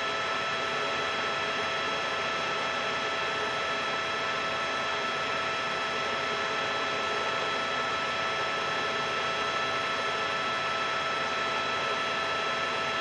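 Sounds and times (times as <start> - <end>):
helicopter drone: 0.0 - 13.0.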